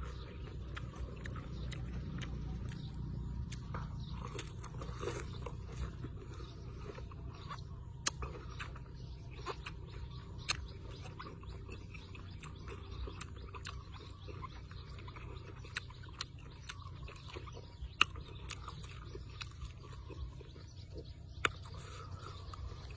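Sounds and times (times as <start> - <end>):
low hum: 0.0 - 22.9
wet mouth chewing sounds: 0.0 - 22.9.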